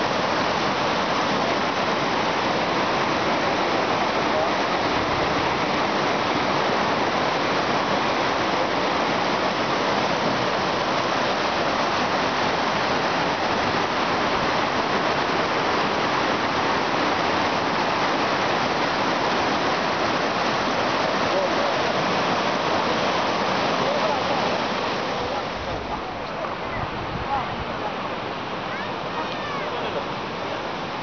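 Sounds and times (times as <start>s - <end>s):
rushing stream water: 0.0s - 31.0s.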